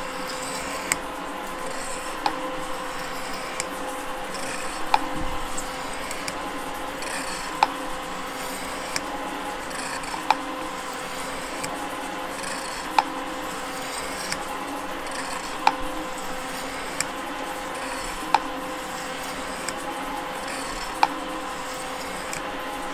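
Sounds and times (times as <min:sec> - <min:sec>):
metal shaper running: 0:00.0 - 0:22.9.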